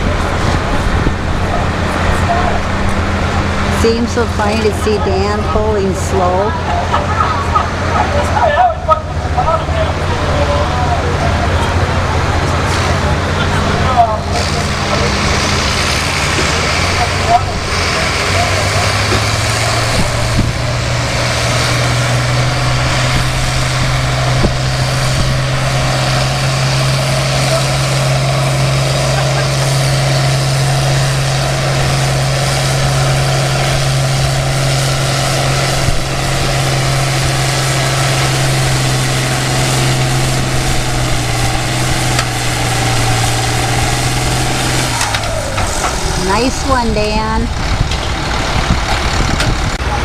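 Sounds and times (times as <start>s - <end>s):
tractor engine under load: 0.0s - 50.0s.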